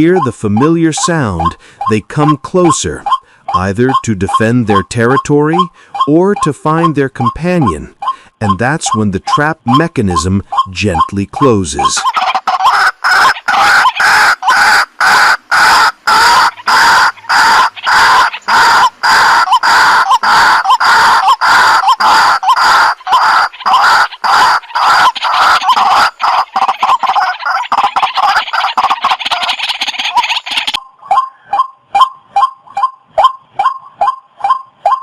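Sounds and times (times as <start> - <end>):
bird clucking call: 0.0 - 35.0.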